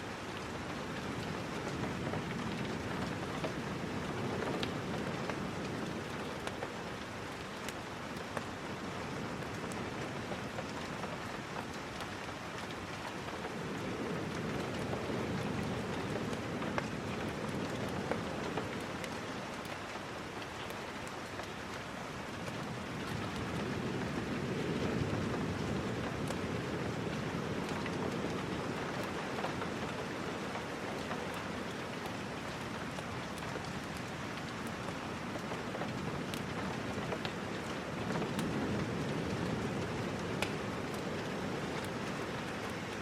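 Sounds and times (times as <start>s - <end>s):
steady rain: 0.0s - 43.0s.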